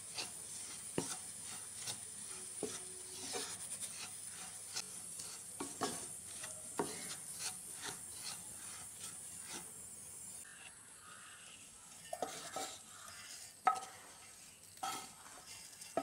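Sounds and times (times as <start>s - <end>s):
wooden spatula scraping in a pan: 0.0s - 16.0s.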